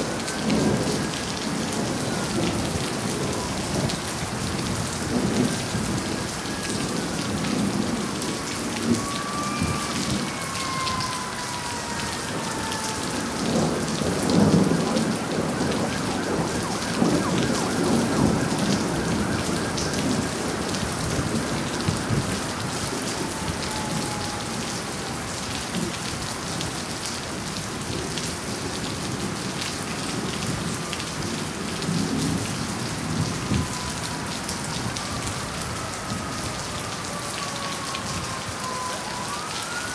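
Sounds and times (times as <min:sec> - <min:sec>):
thunder rumbling: 0:00.0 - 0:26.7, 0:30.1 - 0:39.8
heavy rain falling: 0:00.0 - 0:39.9.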